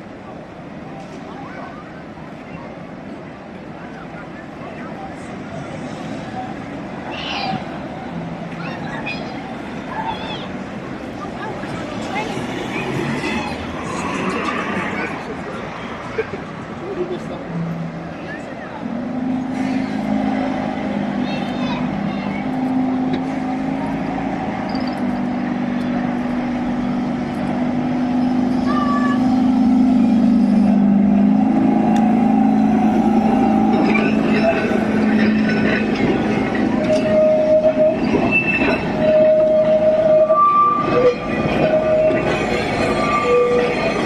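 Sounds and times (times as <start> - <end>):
road traffic: 0.0 - 44.0
tram electric hum: 0.0 - 44.0.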